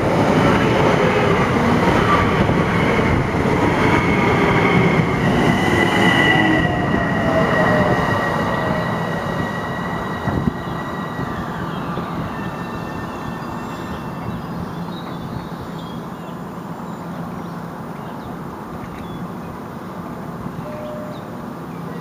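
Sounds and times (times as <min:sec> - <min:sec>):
distant train rumble: 0:00.0 - 0:22.0.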